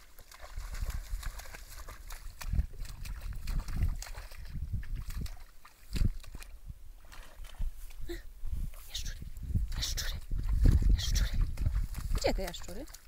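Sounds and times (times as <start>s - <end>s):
water sloshing: 0.0s - 9.0s, 9.6s - 13.0s.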